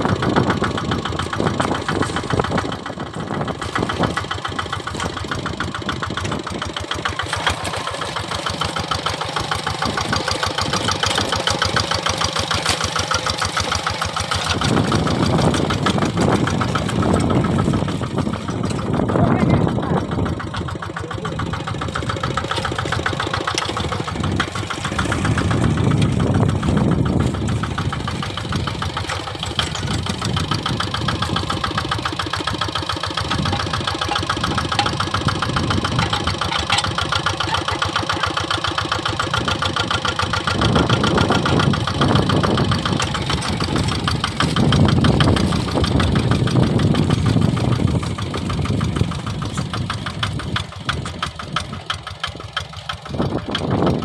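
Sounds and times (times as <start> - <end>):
diesel engine knocking steadily: 0.0 - 54.0.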